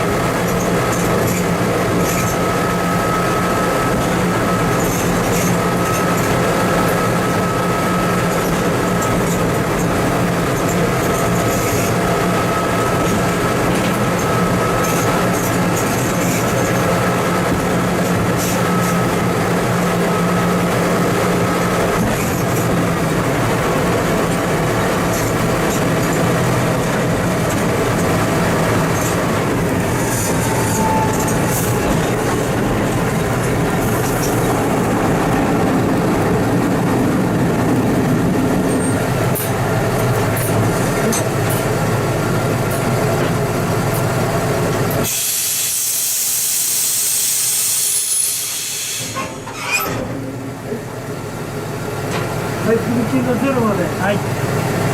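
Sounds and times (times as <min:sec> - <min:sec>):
diesel engine running: 0:00.0 - 0:54.9
rail rumble: 0:00.0 - 0:54.9.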